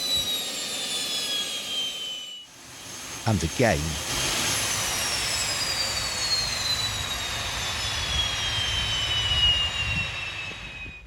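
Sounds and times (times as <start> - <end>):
jet engine roar: 0.0 - 11.0
turbine whine falling in pitch: 0.0 - 11.0.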